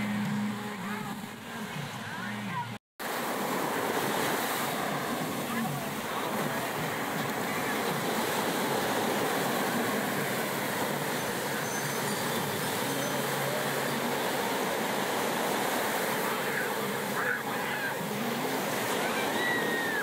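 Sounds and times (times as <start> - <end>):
surf rushing: 0.0 - 20.0.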